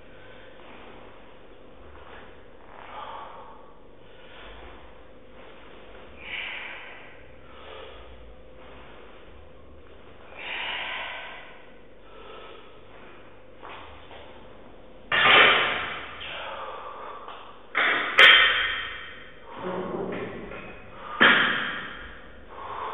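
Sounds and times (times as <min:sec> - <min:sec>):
man breathing hard: 0:00.0 - 0:14.6, 0:15.8 - 0:17.7, 0:20.6 - 0:22.9
electrical hum: 0:00.0 - 0:22.9.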